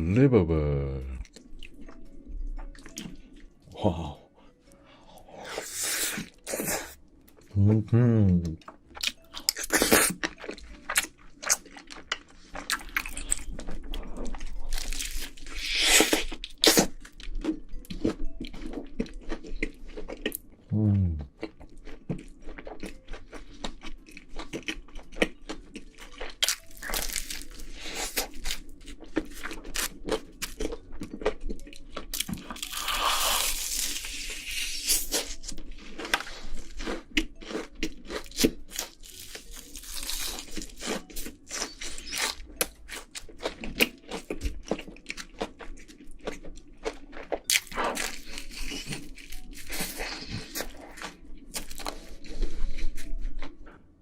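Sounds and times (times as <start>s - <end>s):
chewing pizza: 5.2s - 54.0s.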